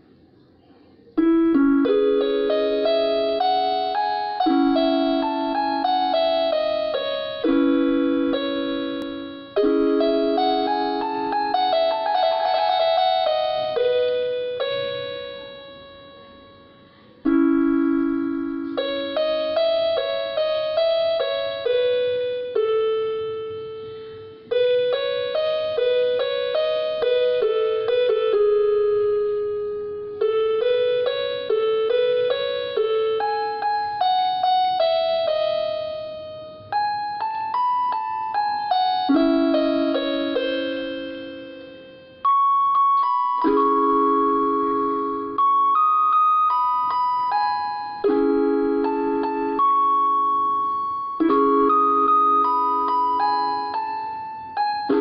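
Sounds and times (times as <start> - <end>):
electronic keyboard piano melody: 0.0 - 55.0.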